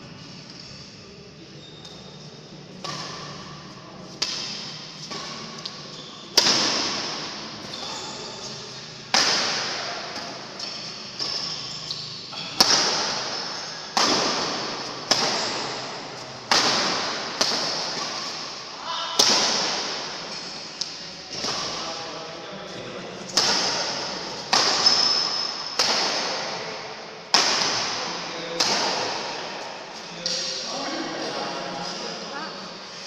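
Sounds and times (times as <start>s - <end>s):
rackets hitting shuttlecock: 2.7s - 21.8s, 23.3s - 30.6s.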